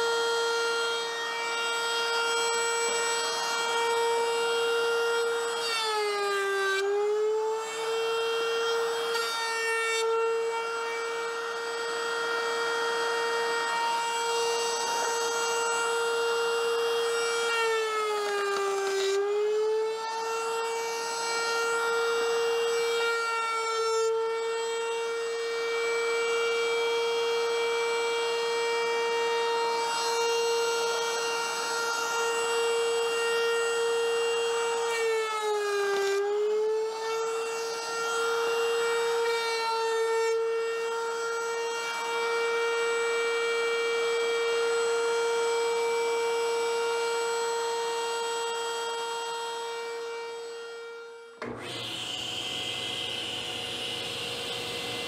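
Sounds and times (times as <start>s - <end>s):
router whining: 0.0s - 55.0s.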